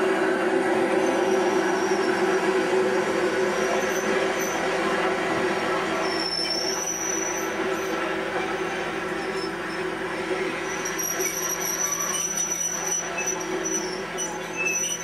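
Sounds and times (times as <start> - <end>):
train wheels rumbling on rails: 0.0 - 15.0
thin high wheel squeal: 0.9 - 2.6, 3.3 - 15.0.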